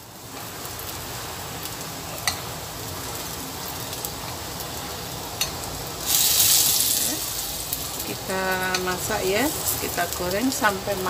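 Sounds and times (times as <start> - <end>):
banana frying in oil: 0.0 - 11.0.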